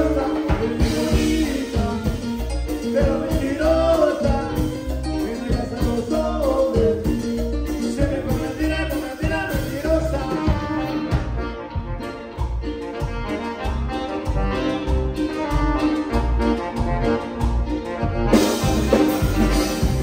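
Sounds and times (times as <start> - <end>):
live latin dance band: 0.0 - 20.0.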